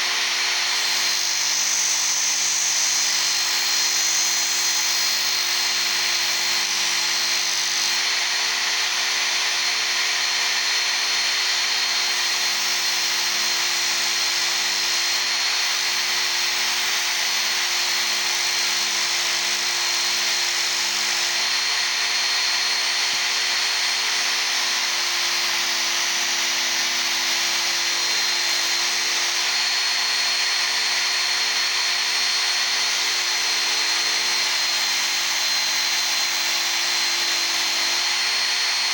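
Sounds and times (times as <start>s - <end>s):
belt sharpener motor hum: 0.0s - 38.9s
steel grinding on abrasive belt: 0.0s - 38.9s.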